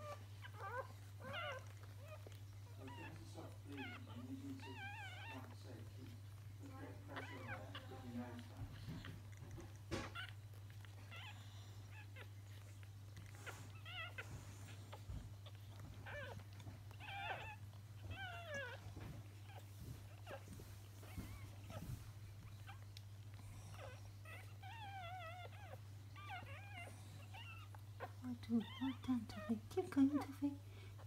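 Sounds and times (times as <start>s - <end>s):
puppies squeaking and whining: 0.0s - 31.0s.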